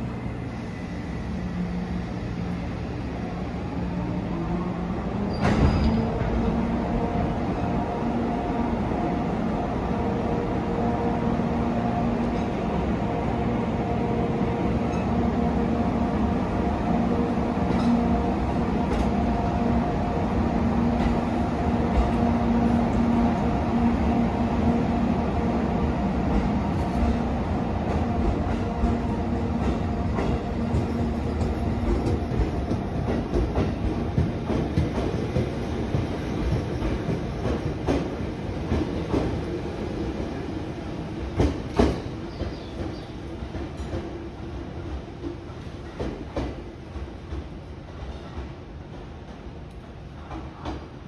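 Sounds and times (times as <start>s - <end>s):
train rolling past: 0.0s - 51.0s.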